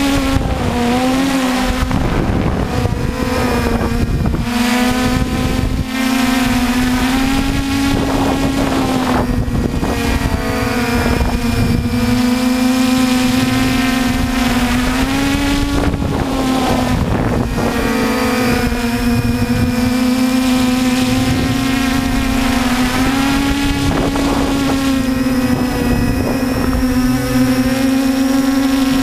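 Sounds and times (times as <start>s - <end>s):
drone propellers humming: 0.0s - 29.0s
wind buffeting microphone: 0.0s - 29.0s.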